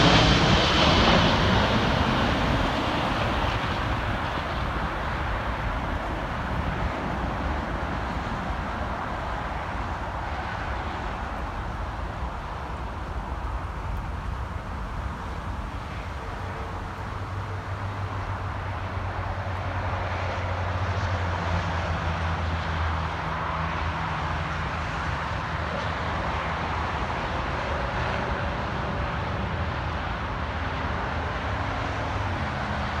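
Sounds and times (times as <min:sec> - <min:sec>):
jet engines rumbling: 0:00.0 - 0:33.0.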